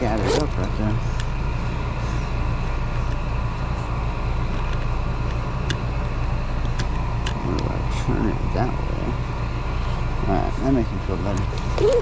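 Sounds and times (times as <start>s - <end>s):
air conditioner compressor hum: 0.0s - 12.0s
condenser fan: 0.0s - 12.0s.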